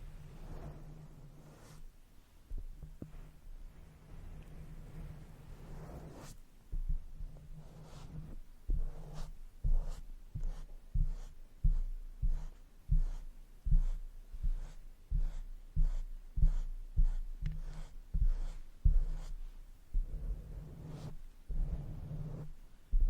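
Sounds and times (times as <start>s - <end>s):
brush stroking a microphone: 0.0s - 23.0s.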